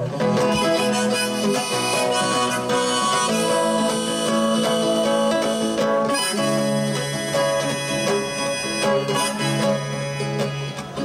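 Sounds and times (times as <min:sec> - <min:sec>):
acoustic guitar: 0:00.0 - 0:11.0
harmonica melody: 0:00.0 - 0:11.0.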